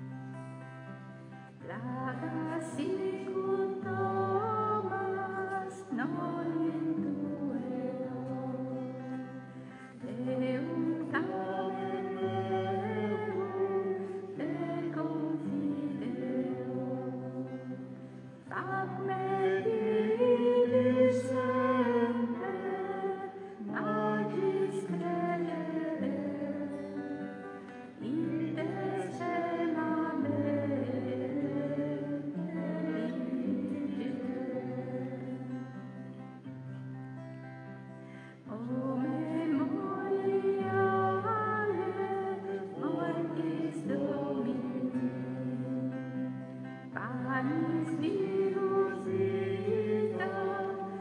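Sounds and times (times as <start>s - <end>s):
slow devotional choir singing: 0.0s - 51.0s.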